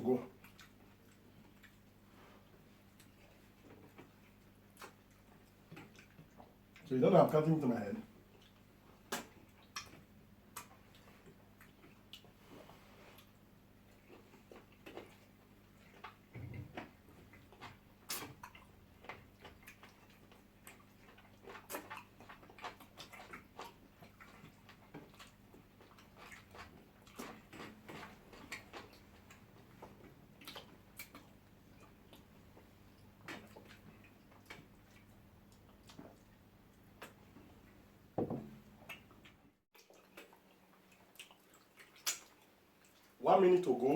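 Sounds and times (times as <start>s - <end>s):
people chewing food: 0.0s - 43.9s.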